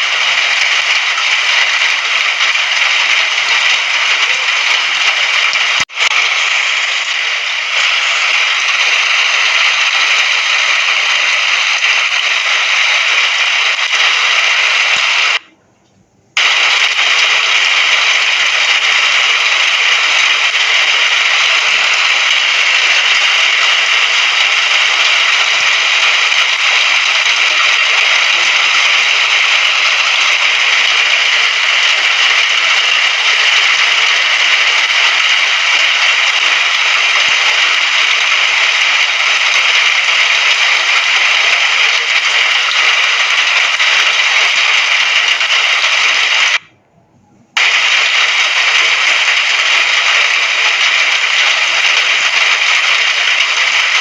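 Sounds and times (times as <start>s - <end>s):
rain hiss: 0.0s - 15.4s, 16.4s - 46.7s, 47.6s - 54.0s.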